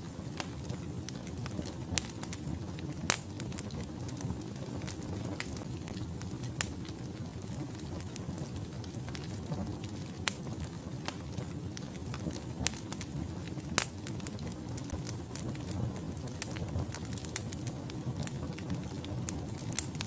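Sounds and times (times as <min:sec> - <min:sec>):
low rumble of fire: 0:00.0 - 0:20.0
crackles and pops from logs: 0:00.2 - 0:20.0.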